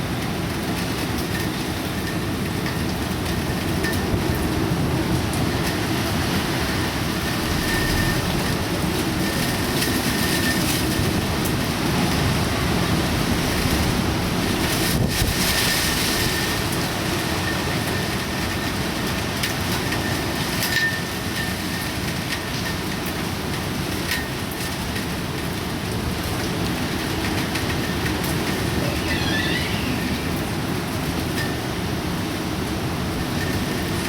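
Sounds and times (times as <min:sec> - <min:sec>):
storm wind and rain roaring: 0:00.0 - 0:34.0.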